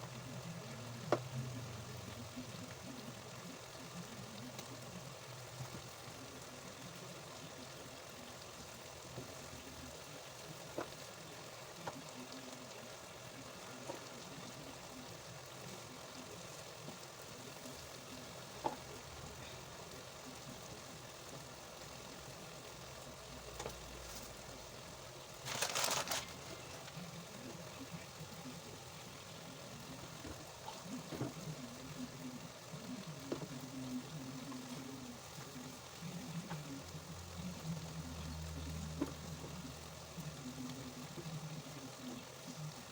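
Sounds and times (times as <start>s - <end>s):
pot sizzling and bubbling: 0.0s - 42.9s.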